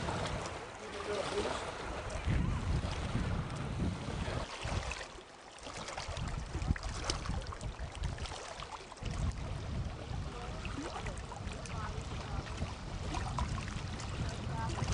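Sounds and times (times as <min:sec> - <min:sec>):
wind on microphone: 0:00.0 - 0:05.1, 0:05.7 - 0:14.9
paddle water splashing: 0:00.0 - 0:14.9.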